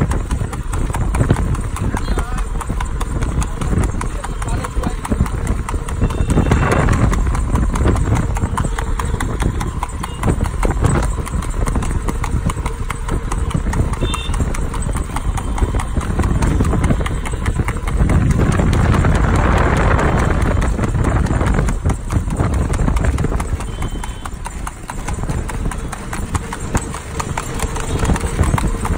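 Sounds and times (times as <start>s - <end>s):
horse hooves clip-clopping on asphalt: 0.0s - 28.9s.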